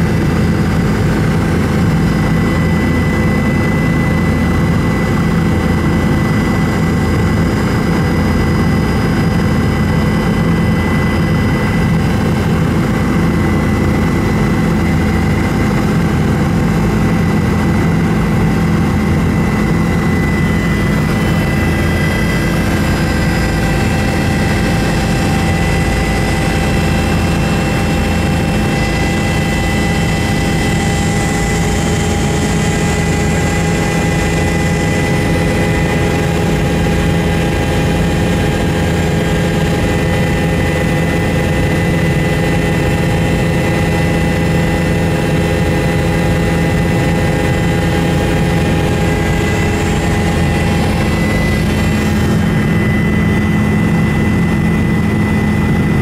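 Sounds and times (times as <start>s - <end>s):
helicopter rotor and engine drone: 0.0s - 56.0s
high whine: 0.0s - 56.0s.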